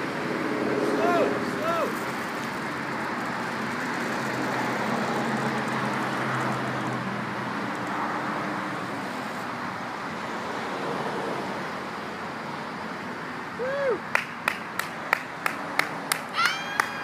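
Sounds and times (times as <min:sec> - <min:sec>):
road and vehicle noise: 0:00.0 - 0:17.0.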